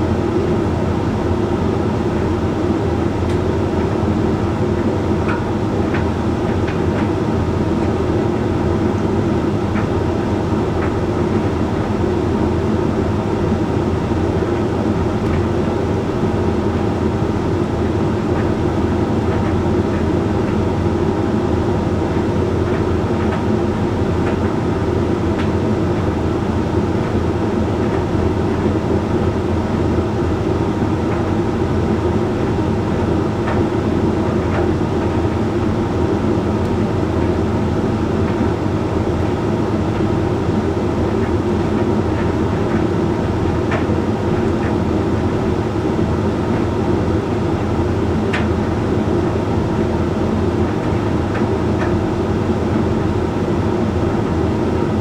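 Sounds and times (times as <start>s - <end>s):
tumble dryer humming and rumbling: 0.0s - 55.0s.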